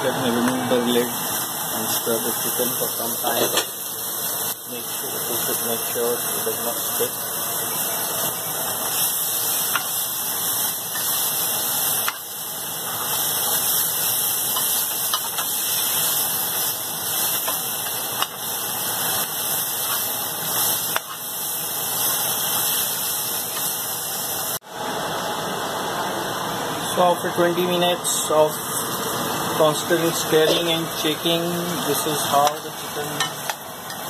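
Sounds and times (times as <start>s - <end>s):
food sizzling in a frying pan: 0.0s - 24.6s, 27.3s - 34.0s.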